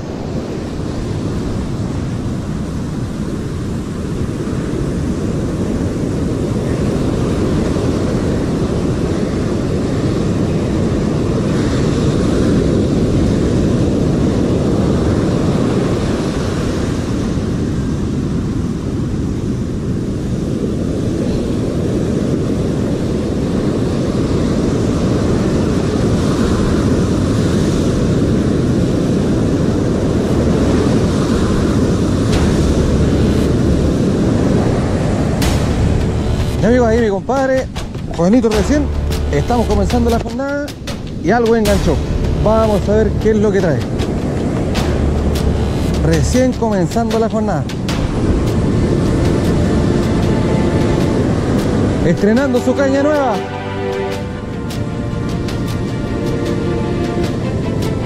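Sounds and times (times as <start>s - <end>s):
surf roaring on beach: 0.0s - 58.0s
waves washing up sand: 0.0s - 58.0s
wind buffeting microphone: 0.0s - 58.0s.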